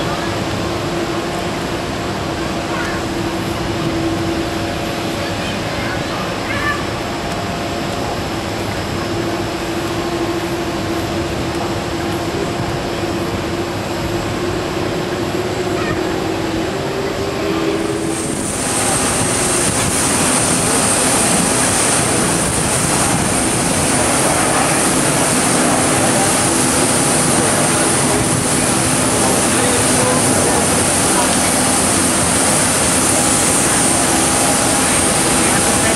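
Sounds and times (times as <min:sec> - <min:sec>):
jet engine drone: 0:00.0 - 0:35.9
jet rush with high whine: 0:00.0 - 0:35.9.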